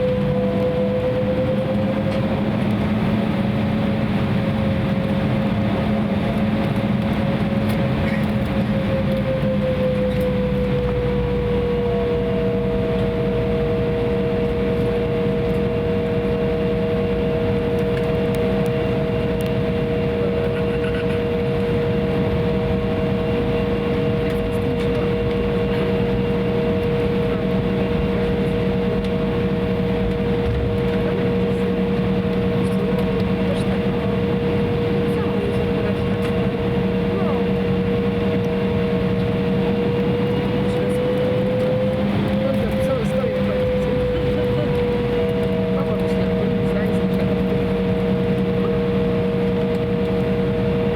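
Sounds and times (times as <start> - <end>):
higher engine whine: 0.0 - 50.9
jet engine whine and rumble: 0.0 - 50.9.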